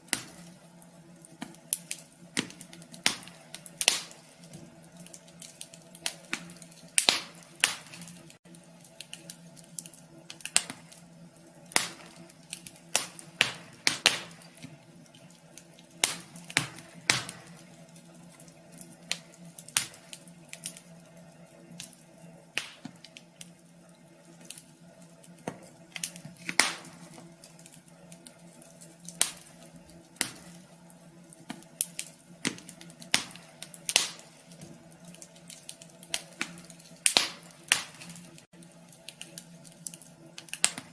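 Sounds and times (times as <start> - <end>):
faint steady hum: 0.0 - 40.9
wood fire crackling and popping: 0.0 - 40.9.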